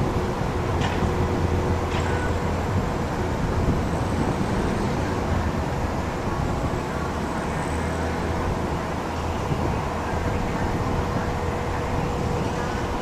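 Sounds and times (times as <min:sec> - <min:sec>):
distant jet engines rumbling: 0:00.0 - 0:13.0
faint steady tones: 0:00.0 - 0:13.0.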